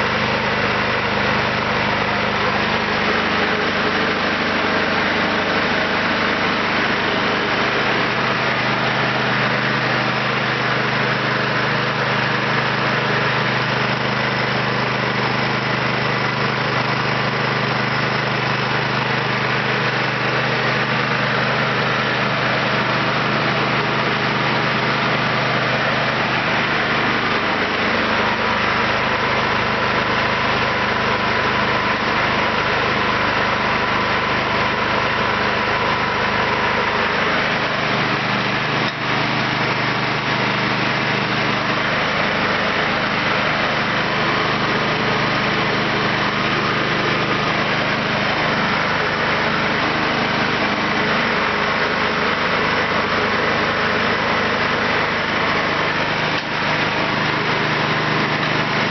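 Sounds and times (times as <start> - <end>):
petrol engine running: 0.0 - 58.9.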